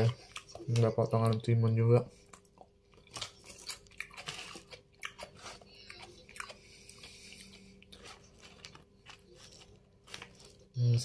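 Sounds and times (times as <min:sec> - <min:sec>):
person chewing crunchy food: 0:00.0 - 0:10.8.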